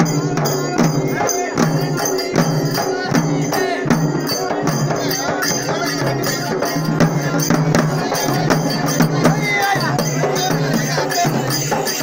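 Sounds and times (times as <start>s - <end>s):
frame drums beaten fast: 0.0s - 12.0s.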